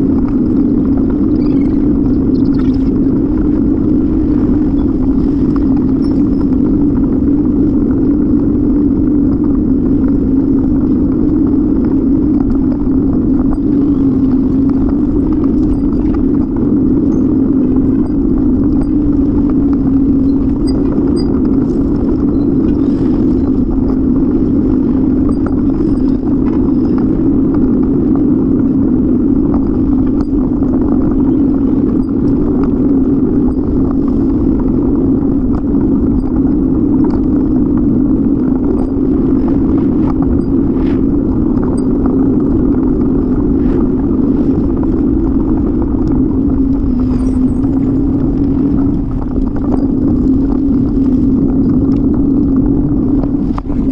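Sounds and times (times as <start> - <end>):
bicycle road rumble: 0.0 - 53.9
wind on microphone: 0.0 - 53.9.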